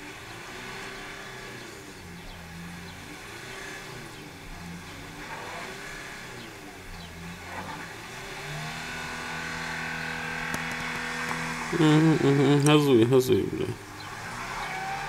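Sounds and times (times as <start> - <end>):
wheels spinning in mud: 0.0 - 12.7, 13.9 - 15.0
van engine revving: 0.0 - 15.0.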